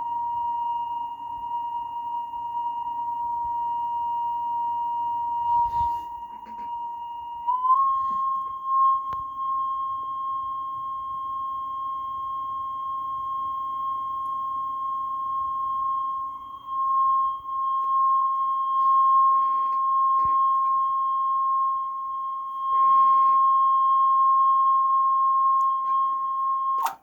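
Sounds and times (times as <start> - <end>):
steady test tone: 0.0 - 27.0.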